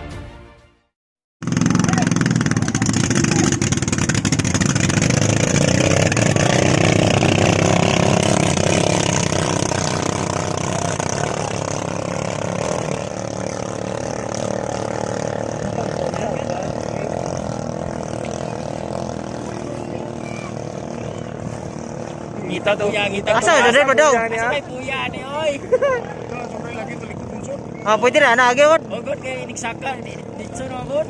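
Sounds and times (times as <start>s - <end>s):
boat engine running flat out: 1.4s - 31.0s.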